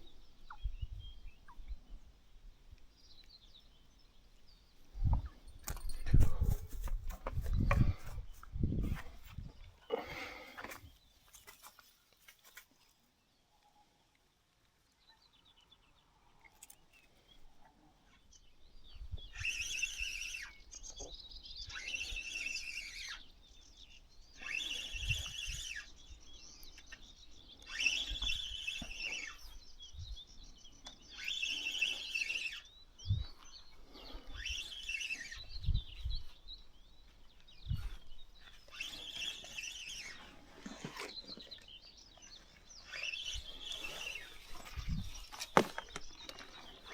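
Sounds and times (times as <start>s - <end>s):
songbird singing chirpy phrases: 0.0s - 6.5s, 13.1s - 46.9s.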